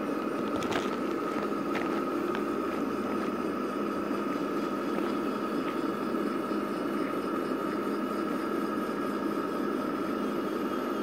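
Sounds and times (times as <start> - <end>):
small electric motor humming: 0.0 - 11.0.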